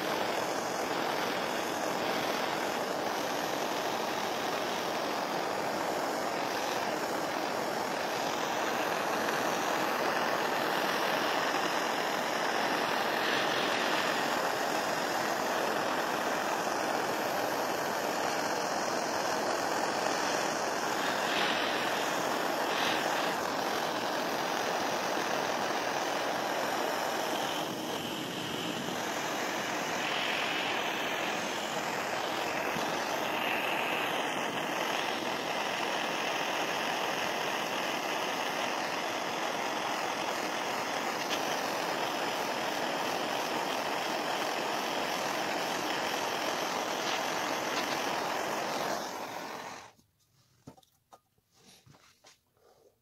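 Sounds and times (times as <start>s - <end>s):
gas torch flame hissing: 0.0s - 50.0s.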